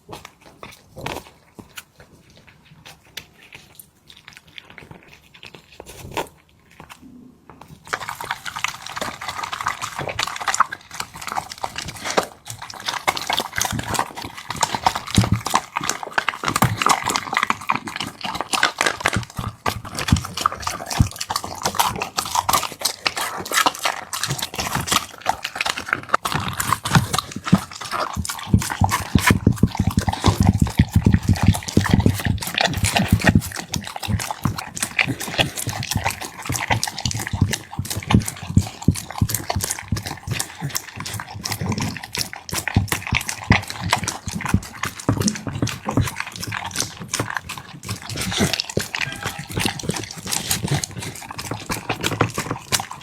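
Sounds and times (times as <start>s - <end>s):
dog chomping and slurping food: 0.0s - 53.0s.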